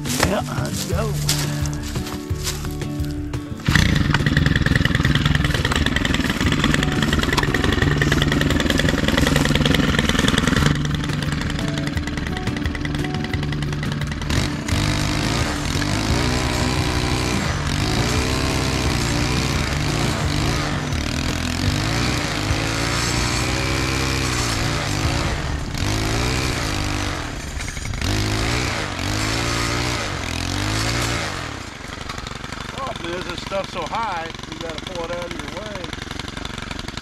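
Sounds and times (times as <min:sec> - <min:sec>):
brushcutter cutting brush: 0:00.0 - 0:37.0.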